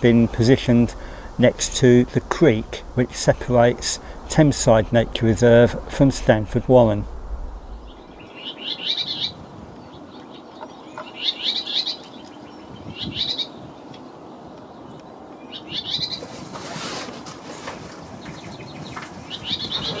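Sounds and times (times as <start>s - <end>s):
bird singing scratchy warbles: 0.0s - 16.4s, 18.1s - 20.0s.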